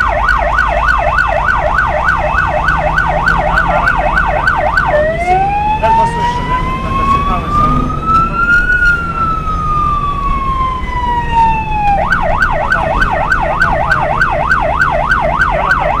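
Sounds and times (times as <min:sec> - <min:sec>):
truck engine and road noise: 0:00.0 - 0:16.0
vehicle siren wailing and yelping: 0:00.0 - 0:16.0.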